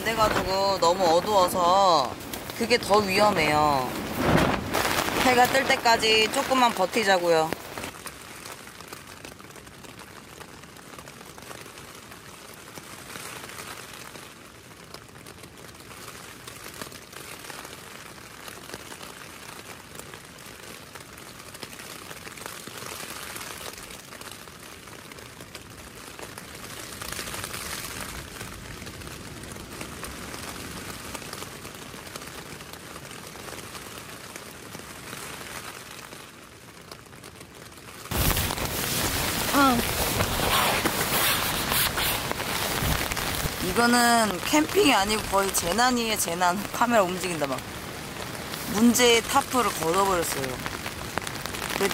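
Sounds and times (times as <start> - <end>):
fabric crinkling in wind: 0.0 - 51.9
rain on tent fabric: 0.0 - 51.9.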